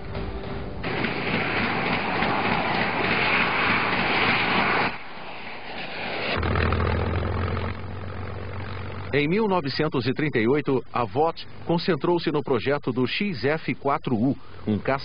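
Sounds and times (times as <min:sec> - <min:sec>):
propeller plane engine rushing: 0:00.0 - 0:12.2
low engine hum: 0:00.0 - 0:14.8.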